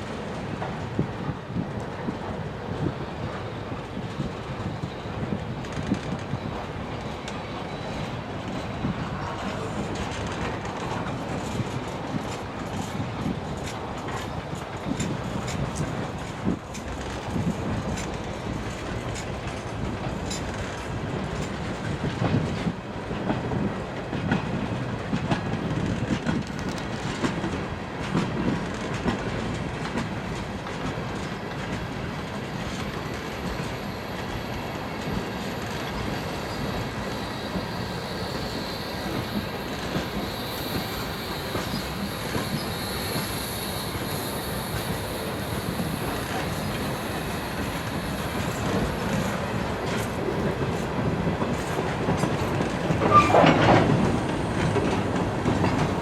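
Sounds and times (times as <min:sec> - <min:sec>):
train wheels clicking over rail joints: 0:00.1 - 0:56.0
wheels squealing on rails: 0:02.8 - 0:22.7, 0:31.1 - 0:56.0.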